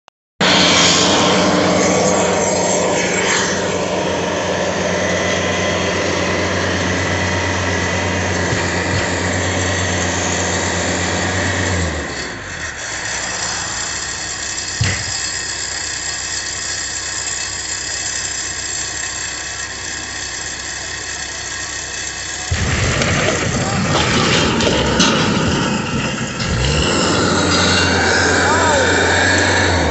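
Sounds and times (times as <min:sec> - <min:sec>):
heavy equipment engine running: 0:00.4 - 0:29.9.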